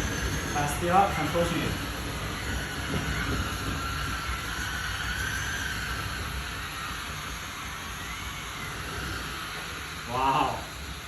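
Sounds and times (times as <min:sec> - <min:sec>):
electric drive whining: 0:00.0 - 0:11.0.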